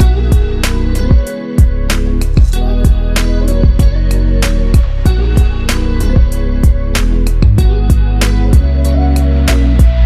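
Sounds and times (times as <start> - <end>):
deep bass: 0.0 - 10.0
guitar-led instrumental music: 0.0 - 10.0.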